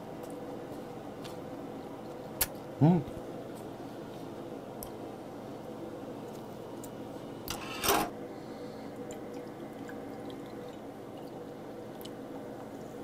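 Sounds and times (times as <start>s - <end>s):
grill hum: 0.0s - 13.0s.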